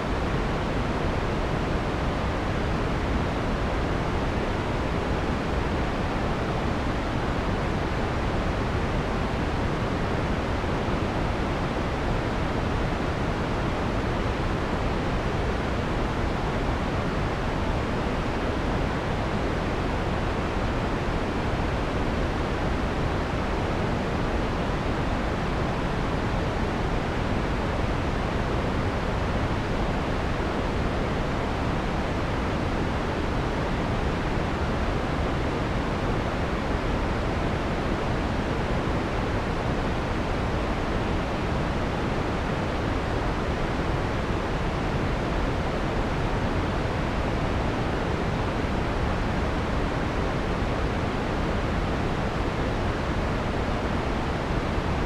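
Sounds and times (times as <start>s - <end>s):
soft filtered white noise hiss: 0.0s - 55.0s.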